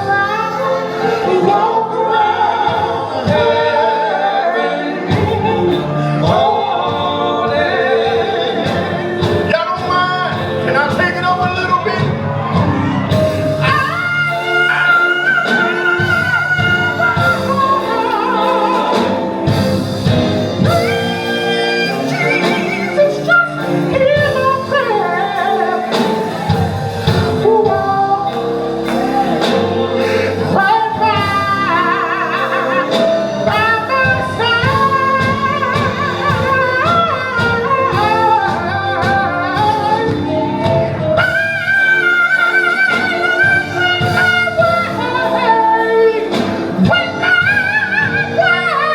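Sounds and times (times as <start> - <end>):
band with steady beat: 0.0 - 48.9
voices singing gospel: 0.0 - 48.9.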